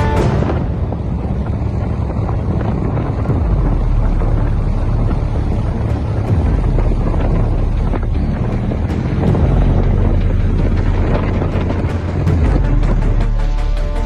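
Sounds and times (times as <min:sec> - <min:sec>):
boat engine rumble: 0:00.0 - 0:14.0
wind buffeting microphone: 0:00.0 - 0:14.0.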